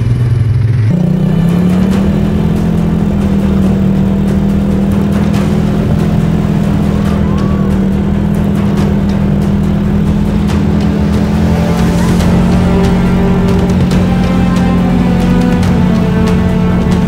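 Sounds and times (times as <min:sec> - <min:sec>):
quad bike engine driving: 0:00.0 - 0:17.0.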